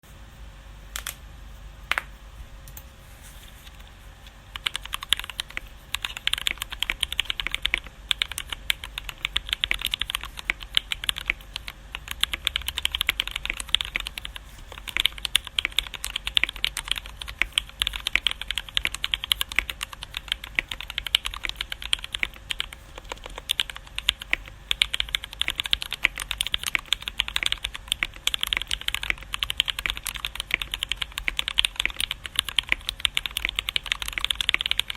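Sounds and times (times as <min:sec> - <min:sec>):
mechanical keyboard typing: 0:04.5 - 0:34.9.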